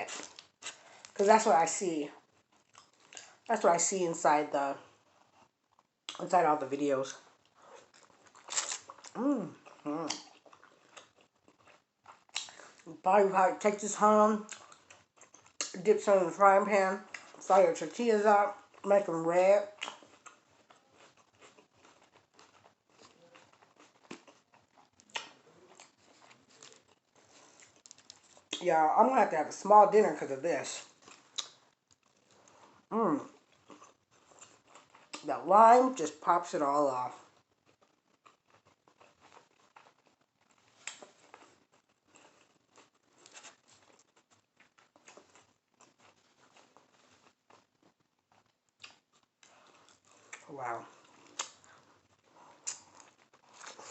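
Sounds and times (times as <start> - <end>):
faint chewing: 0.0 - 3.9, 4.8 - 13.0, 14.4 - 16.0, 17.0 - 19.0, 19.6 - 28.7, 30.8 - 35.3, 37.0 - 53.9.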